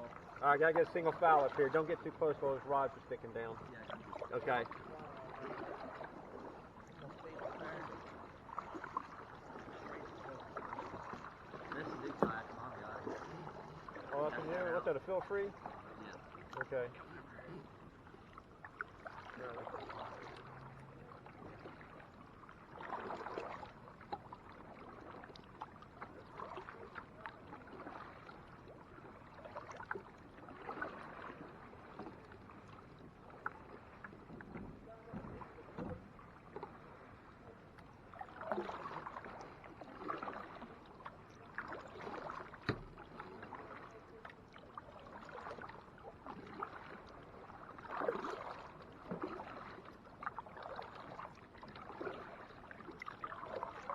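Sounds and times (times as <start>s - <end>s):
paddle splashing water: 0.0s - 53.9s.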